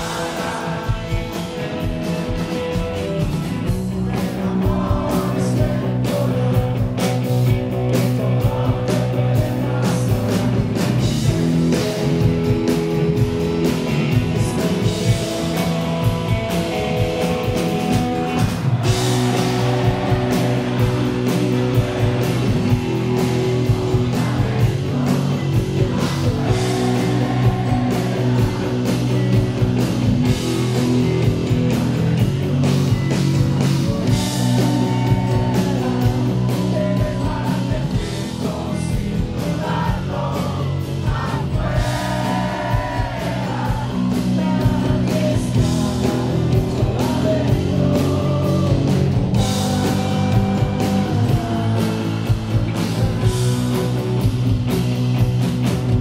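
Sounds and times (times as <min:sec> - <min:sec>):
lead vocalist singing: 0:00.0 - 0:12.7, 0:14.0 - 0:32.4, 0:33.2 - 0:53.7
rock band playing live: 0:00.0 - 0:56.0.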